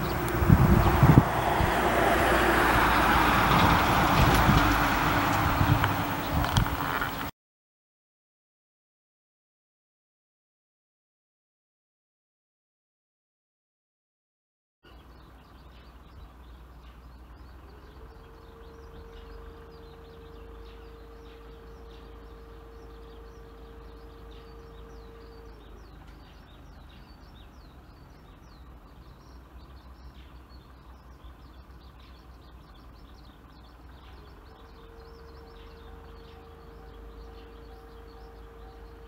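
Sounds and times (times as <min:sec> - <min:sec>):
low outdoor rumble: 0:00.0 - 0:07.3, 0:14.9 - 0:39.0
small birds chirping: 0:00.0 - 0:07.3, 0:14.8 - 0:39.0.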